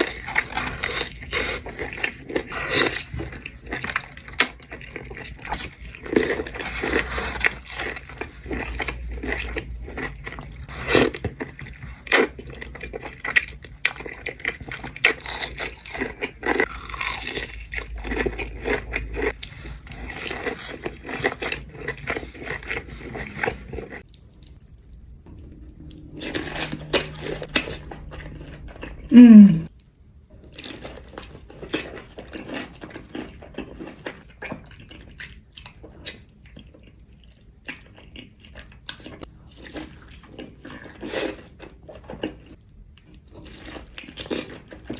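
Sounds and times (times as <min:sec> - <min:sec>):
crunching and chewing: 0:00.0 - 0:44.9.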